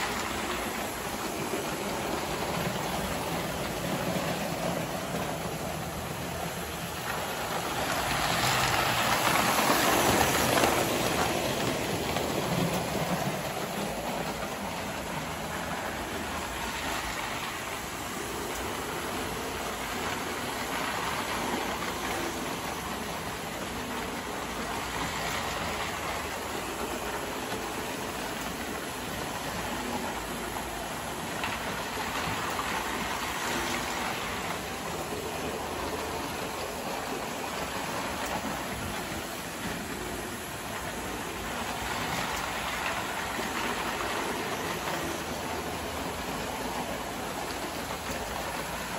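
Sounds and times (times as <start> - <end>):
model train whirring rumble: 0.0 - 48.9.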